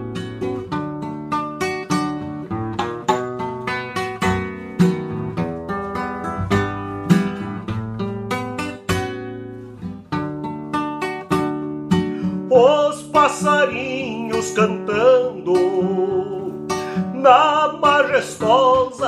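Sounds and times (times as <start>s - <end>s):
classical guitar playing: 0.0s - 19.0s.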